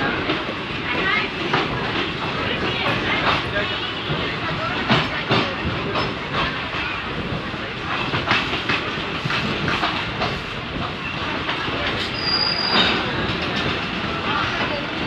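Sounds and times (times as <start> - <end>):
train rumbling: 0.0 - 15.0
wheels clacking over rail joints: 0.0 - 15.0.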